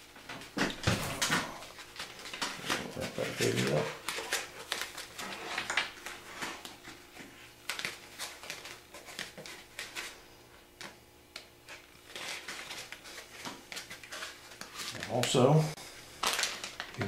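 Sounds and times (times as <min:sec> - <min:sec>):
tape wrapping clicks and rustles: 0:00.2 - 0:10.2, 0:10.8 - 0:15.6, 0:16.2 - 0:17.0.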